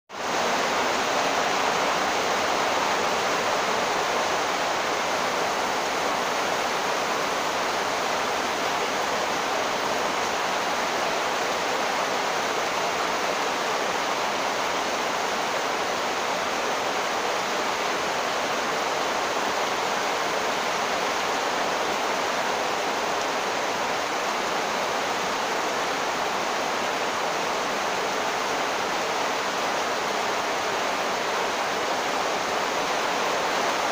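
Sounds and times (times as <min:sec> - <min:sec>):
torrential rain: 0:00.1 - 0:33.9.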